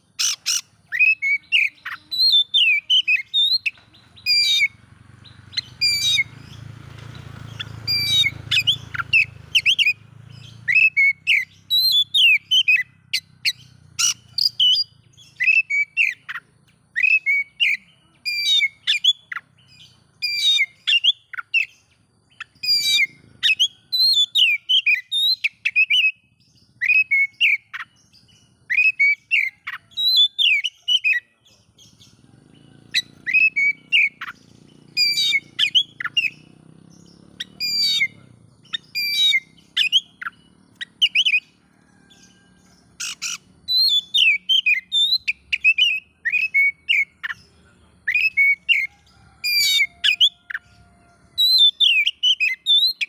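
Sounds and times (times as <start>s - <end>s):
bird singing chirps and whistles: 0.0s - 41.5s, 42.3s - 53.0s.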